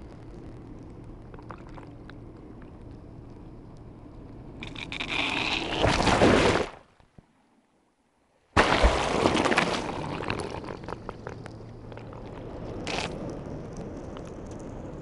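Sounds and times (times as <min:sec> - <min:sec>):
underwater bubbling water noise: 0:00.0 - 0:06.6, 0:08.7 - 0:15.0.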